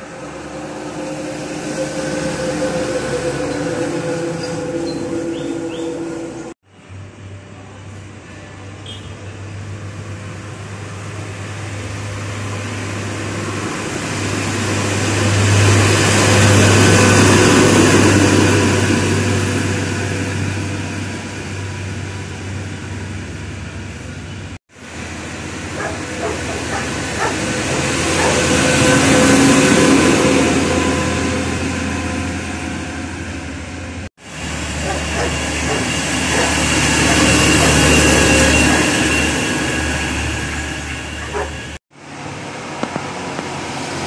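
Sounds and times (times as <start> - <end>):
dump trucks passing: 0.0 - 44.0.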